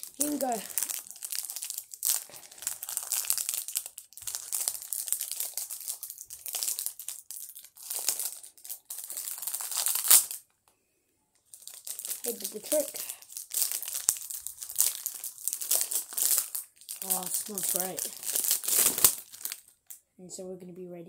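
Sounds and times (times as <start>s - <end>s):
wrapper crinkling: 0.0s - 10.5s, 11.4s - 20.0s.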